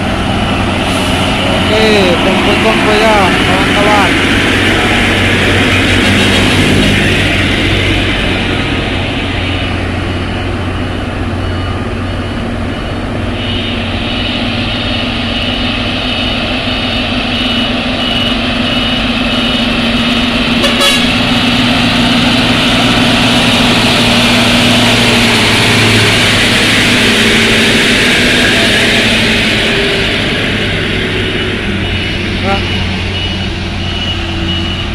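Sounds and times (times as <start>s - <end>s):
diesel truck engines labouring: 0.0s - 34.9s.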